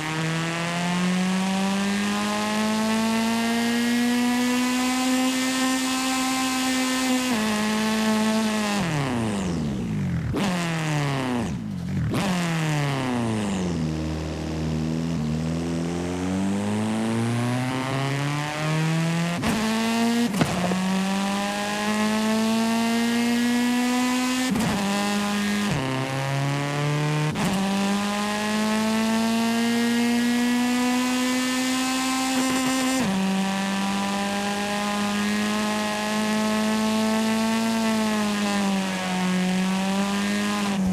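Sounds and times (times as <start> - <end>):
video game car engine: 0.0 - 40.9.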